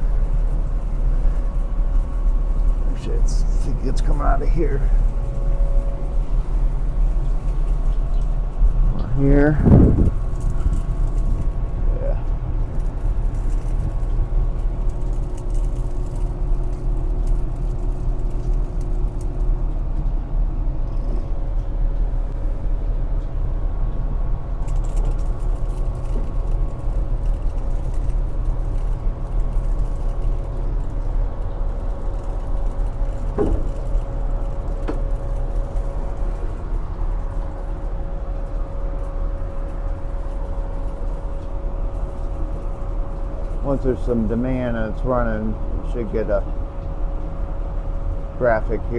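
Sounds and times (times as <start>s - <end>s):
hvac unit humming: 0.0s - 48.9s.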